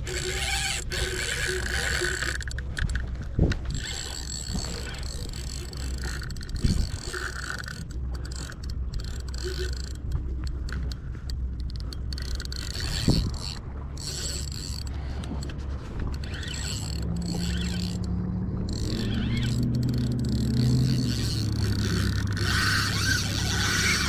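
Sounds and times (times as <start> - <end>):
fishing reel whirring and clicking: 0.0 - 24.0.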